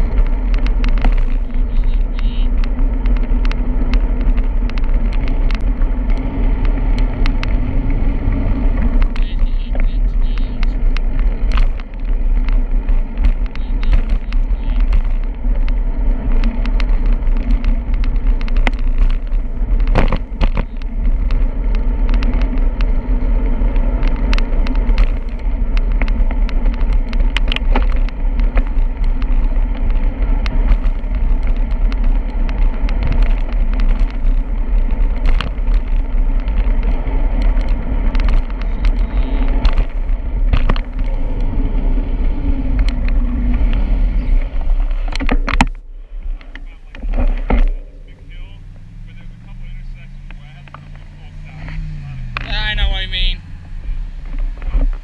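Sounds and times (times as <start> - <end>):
bicycle rattles and knocks: 0.0 - 55.0
wind and road rumble: 0.0 - 55.0.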